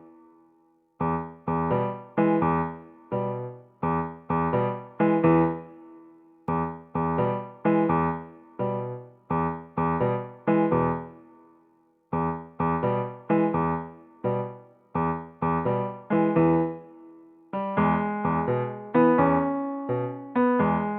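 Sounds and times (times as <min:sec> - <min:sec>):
electric piano chords: 0:01.0 - 0:05.8, 0:06.4 - 0:11.2, 0:12.1 - 0:20.9.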